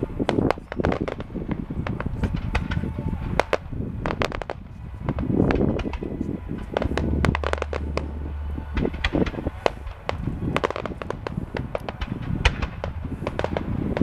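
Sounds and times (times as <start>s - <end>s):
fireworks cracking and popping: 0.0s - 14.0s
heavy firework boom: 0.2s - 14.0s.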